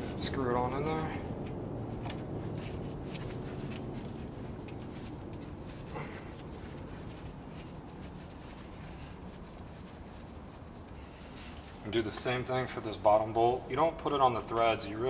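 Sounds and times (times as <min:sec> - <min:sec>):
gloved hands rubbing: 0:00.0 - 0:13.6.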